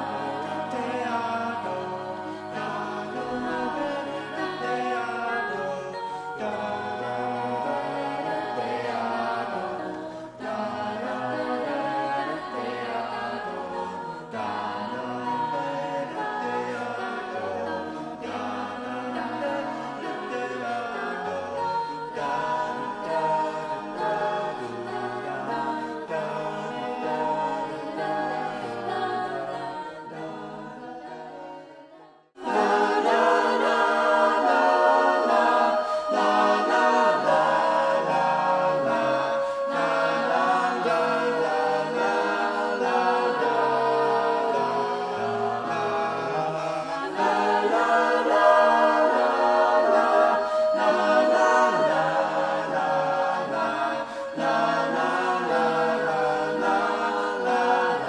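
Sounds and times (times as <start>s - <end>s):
a cappella group singing in harmony: 0.0s - 58.0s.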